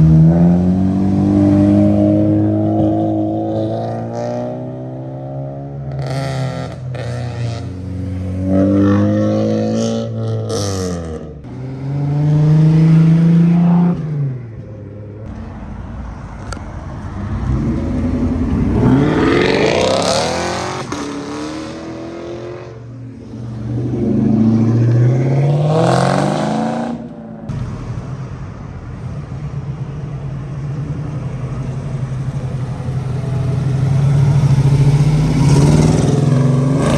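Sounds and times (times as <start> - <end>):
car engines revving and accelerating: 0.0 - 36.9.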